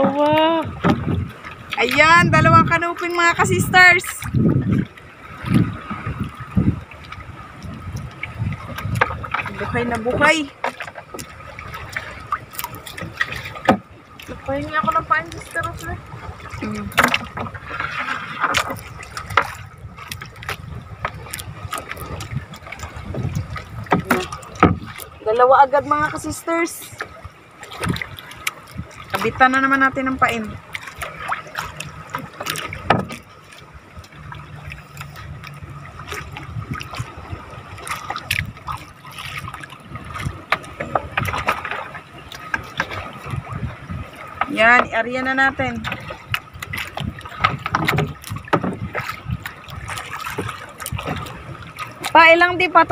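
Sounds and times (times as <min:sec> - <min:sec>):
water splashing around boat: 0:00.0 - 0:52.9.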